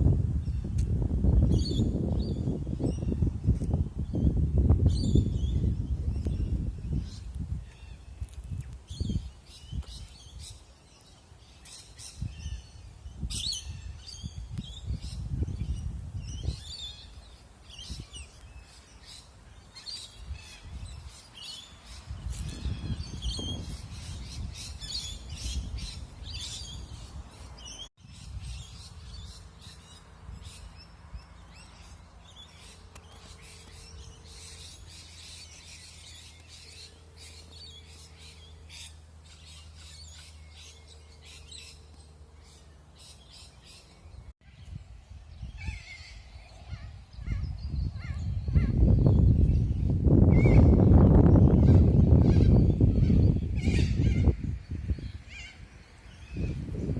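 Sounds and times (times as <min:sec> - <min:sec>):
birds chirping: 0:00.4 - 0:56.9.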